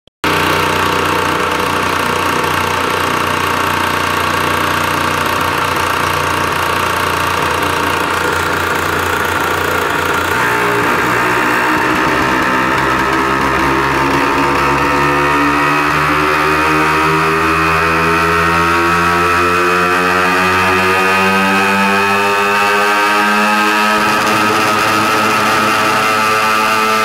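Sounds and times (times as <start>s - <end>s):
two-stroke motorcycle engine running: 0.2s - 27.0s.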